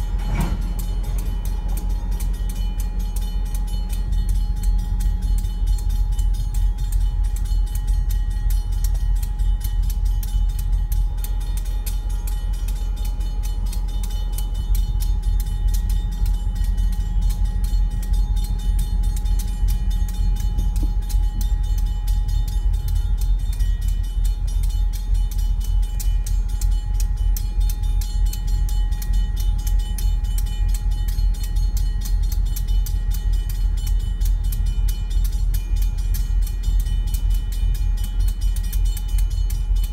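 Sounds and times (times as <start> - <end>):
crossing signal bell ringing: 0.0 - 39.9
freight cars rumbling: 0.0 - 39.9.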